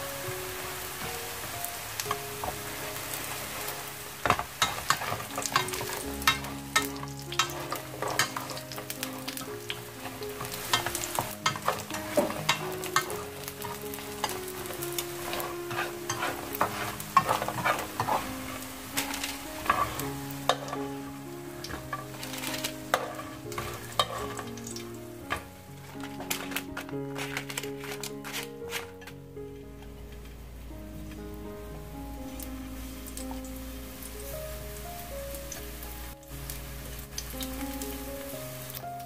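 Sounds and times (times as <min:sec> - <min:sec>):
ginger slices sizzling in oil: 0:00.0 - 0:39.0.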